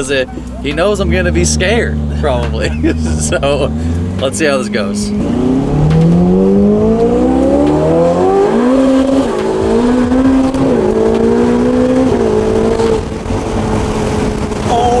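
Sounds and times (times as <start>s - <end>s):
gear upshifts: 0.0s - 15.0s
race car engine revving: 0.0s - 15.0s.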